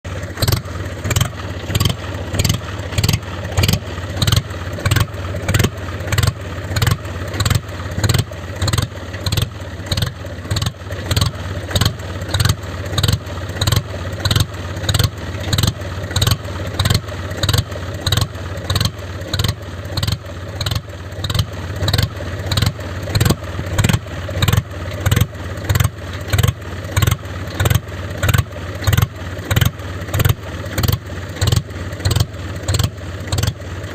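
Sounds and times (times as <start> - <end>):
tractor engine chugging: 0.0 - 33.9.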